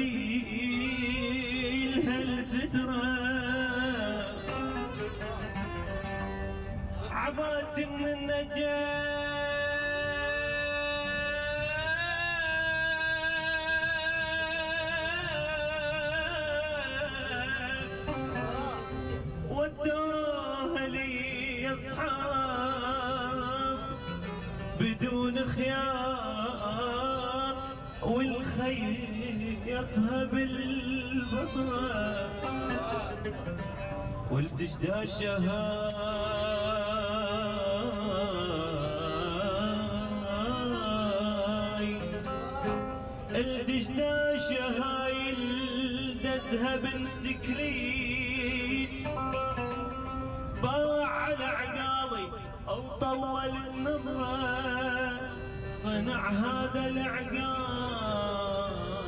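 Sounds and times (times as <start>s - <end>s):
man singing: 0.0s - 59.0s
oud: 0.0s - 59.0s
violin: 0.0s - 59.0s.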